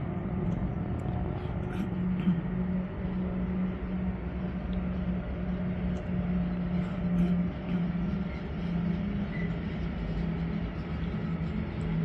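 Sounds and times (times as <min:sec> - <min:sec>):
train low hum: 0:00.0 - 0:12.0
wheels rumbling on rail: 0:00.0 - 0:12.0.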